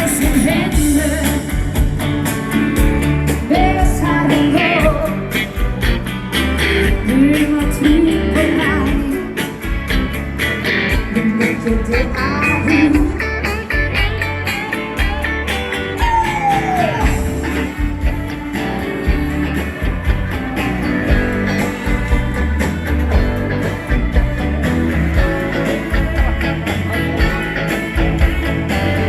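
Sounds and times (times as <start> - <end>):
dance band playing: 0.0 - 29.0.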